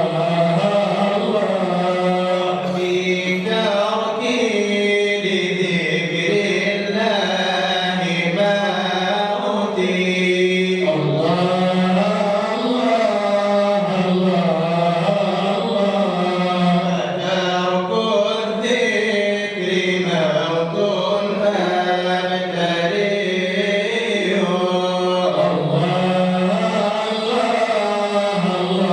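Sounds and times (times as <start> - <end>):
man chanting devotional song: 0.0 - 28.9.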